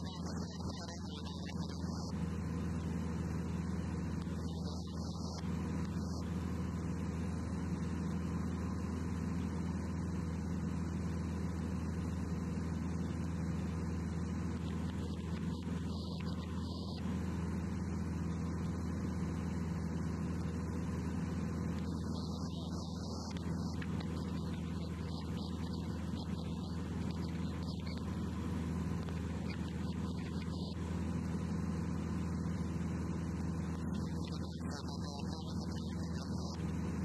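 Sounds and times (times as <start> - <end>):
propeller plane engine droning: 0.0 - 37.0.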